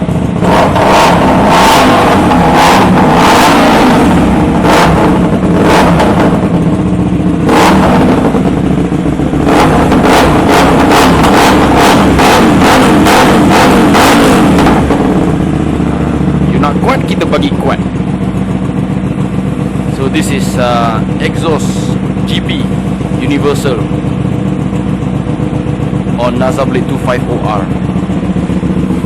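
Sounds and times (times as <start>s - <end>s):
loud engine idle: 0.0s - 29.0s
motorcycle engine revving: 0.0s - 29.0s.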